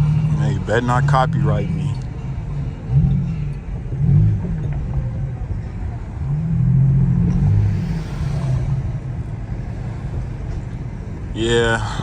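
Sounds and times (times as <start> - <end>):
car engine droning while driving: 0.0 - 12.0.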